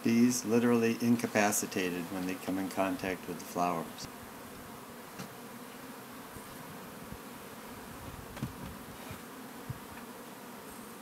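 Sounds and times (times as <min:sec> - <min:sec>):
honeybee buzzing: 0:00.0 - 0:11.0.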